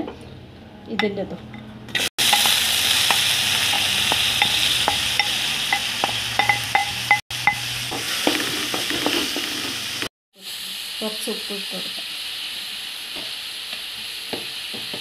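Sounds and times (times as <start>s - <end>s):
onions sizzling in oil: 2.0s - 15.0s.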